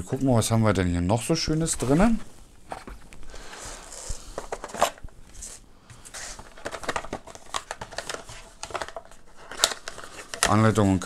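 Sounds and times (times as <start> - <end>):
cardboard rustling: 1.6 - 11.0.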